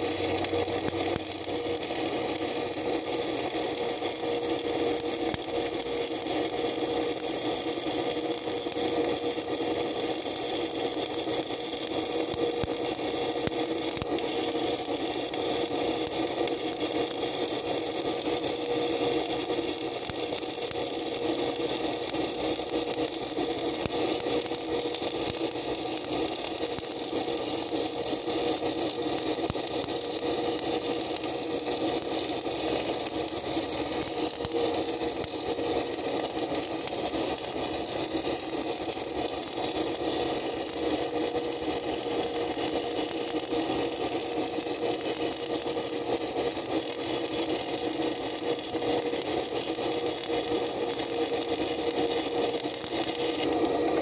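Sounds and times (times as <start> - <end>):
welding arc crackle: 0.0 - 54.0
welding machine hum: 0.0 - 54.0.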